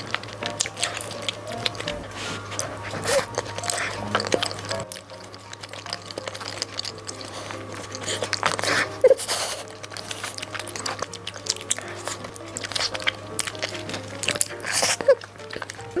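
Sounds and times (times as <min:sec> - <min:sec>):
person chewing rice cake: 0:00.0 - 0:16.0
soft background music: 0:00.0 - 0:16.0.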